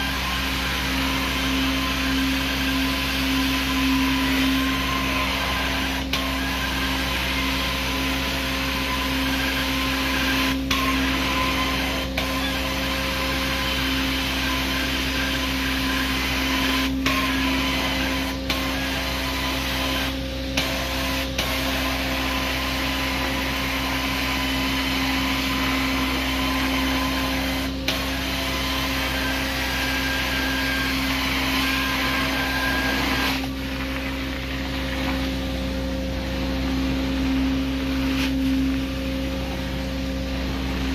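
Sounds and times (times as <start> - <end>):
carpet cleaner suction rush: 0.0 - 40.9
machine hum: 0.0 - 40.9.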